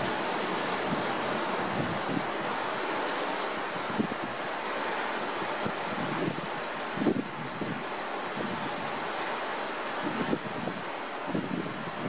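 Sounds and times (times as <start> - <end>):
rushing wind and water: 0.0 - 12.0
wind buffeting the microphone: 0.0 - 12.0.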